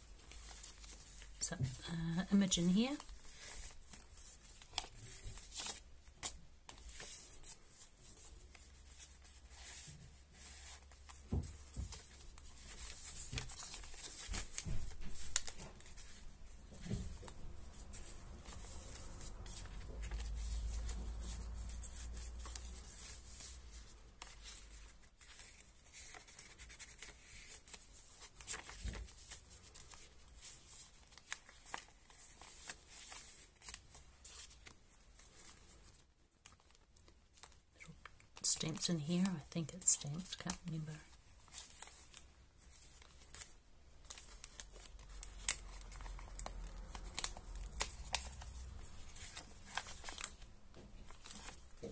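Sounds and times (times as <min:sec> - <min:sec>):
paper pages rustling: 0:00.0 - 0:01.8, 0:02.7 - 0:51.9.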